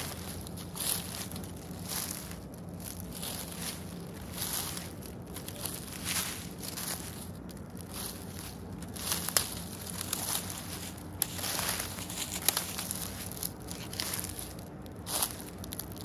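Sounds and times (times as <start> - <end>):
footsteps crunching through leaves: 0.0 - 16.0.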